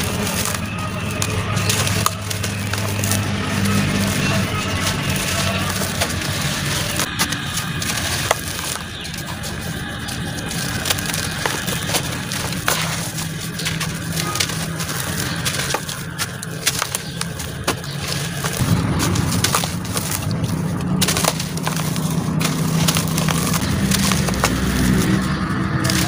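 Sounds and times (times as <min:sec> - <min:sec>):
dry cement crunching by hand: 0:00.0 - 0:26.0.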